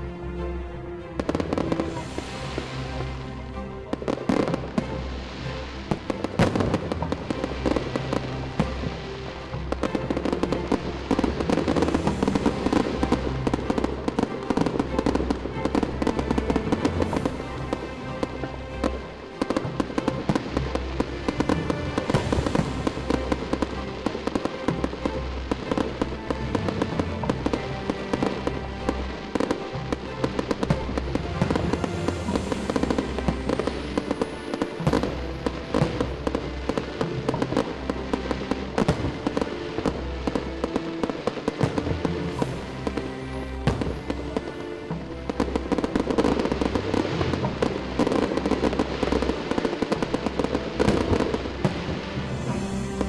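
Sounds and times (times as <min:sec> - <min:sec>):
music playing: 0:00.0 - 0:53.0
fireworks bursting and crackling: 0:01.2 - 0:53.0.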